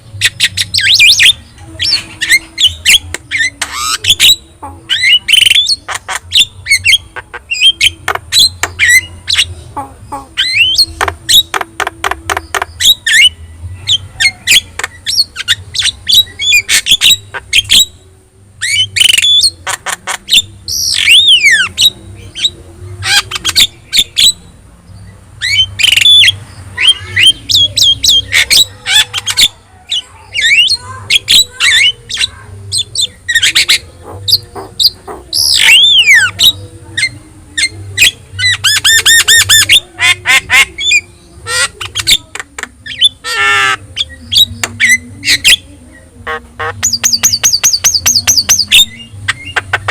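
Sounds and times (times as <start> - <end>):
myna singing squawks and whistles: 0.2 - 18.0, 18.6 - 24.4, 25.4 - 49.9.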